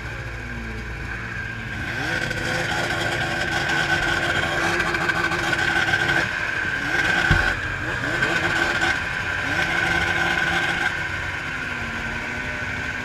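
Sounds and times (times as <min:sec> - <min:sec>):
snowmobile engines running: 0:00.0 - 0:13.0
snowmobile engine revving: 0:01.0 - 0:13.0.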